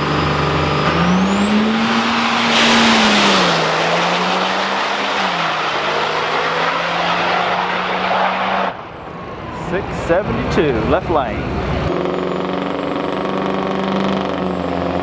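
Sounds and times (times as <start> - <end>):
exhaust rushing: 0.0 - 15.0
truck engine accelerating: 0.0 - 15.0.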